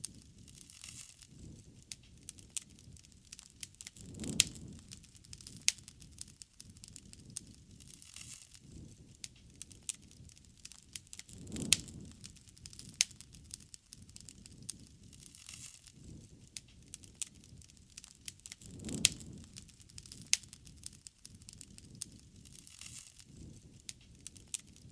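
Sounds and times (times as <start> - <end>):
low rush of flame: 0.0 - 24.9
wood fire crackling and popping: 0.0 - 24.9.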